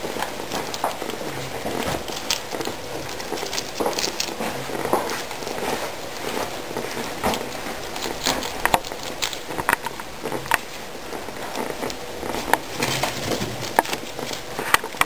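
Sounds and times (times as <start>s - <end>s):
guinea pigs crunching lettuce: 0.0s - 15.0s.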